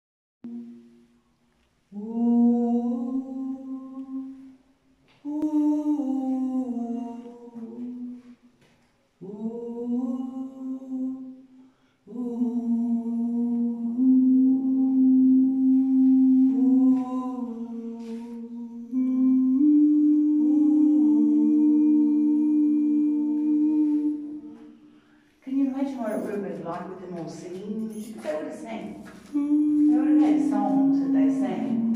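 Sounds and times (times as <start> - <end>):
unaccompanied singing: 1.9 - 31.9.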